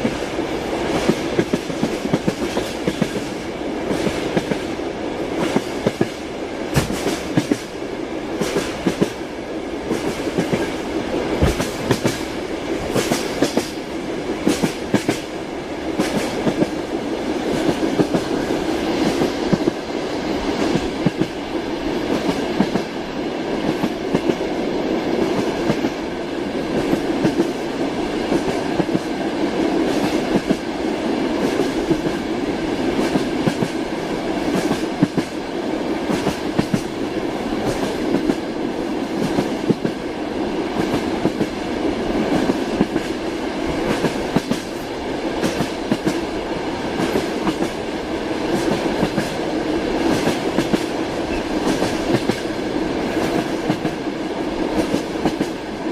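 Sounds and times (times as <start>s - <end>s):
train rumble: 0.0s - 55.9s.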